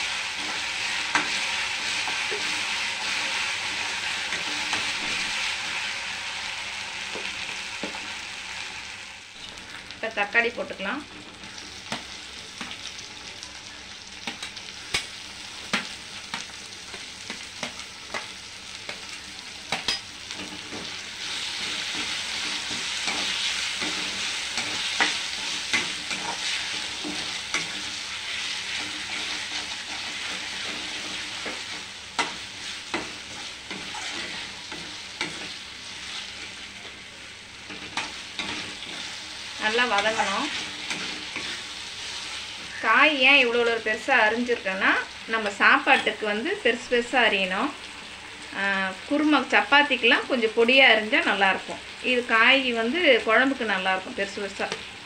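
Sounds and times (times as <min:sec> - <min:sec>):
tomatoes sizzling in hot oil: 0:00.0 - 0:55.0.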